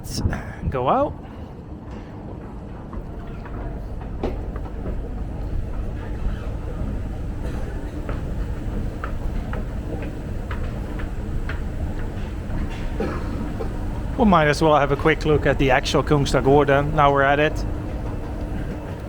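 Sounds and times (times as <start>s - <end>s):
metro train rumbling: 0.0s - 19.0s.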